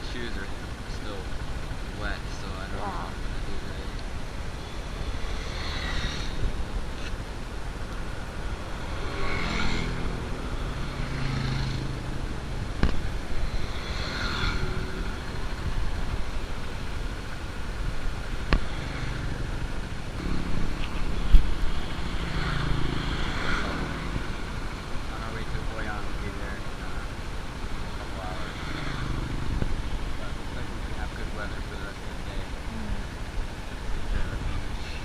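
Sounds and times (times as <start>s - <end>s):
steady road noise: 0.0s - 35.0s
vehicles passing: 0.0s - 35.0s.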